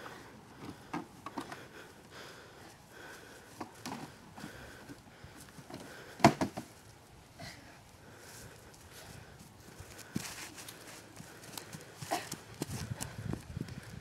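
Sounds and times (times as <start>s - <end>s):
people scuffling: 0.1s - 14.0s.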